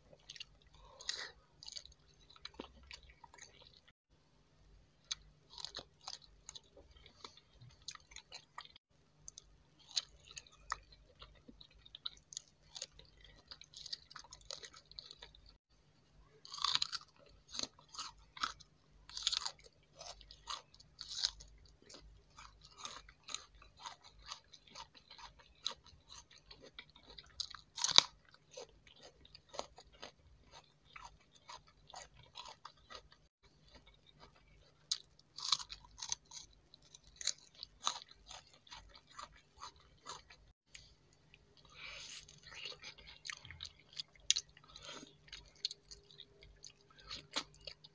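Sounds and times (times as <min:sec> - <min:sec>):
chewing crunchy fruit: 0:00.0 - 0:04.0, 0:05.0 - 0:15.6, 0:16.2 - 0:47.9.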